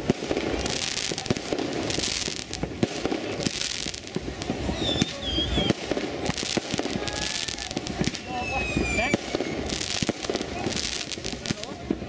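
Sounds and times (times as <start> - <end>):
firecrackers banging: 0.0 - 12.0
firework whistles: 0.0 - 12.0
fireworks hissing and crackling: 0.0 - 12.0.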